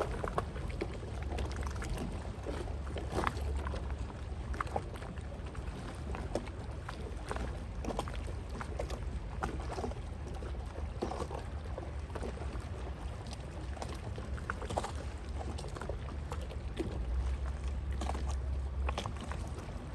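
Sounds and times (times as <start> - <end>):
steady low rumble: 0.0 - 19.9
waves splashing against shore: 0.0 - 19.9.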